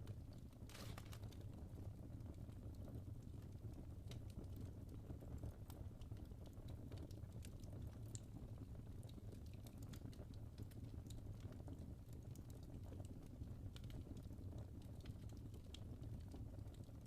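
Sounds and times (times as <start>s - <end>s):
logs crackling and popping: 0.0s - 17.0s
low fire rumble: 0.0s - 17.0s.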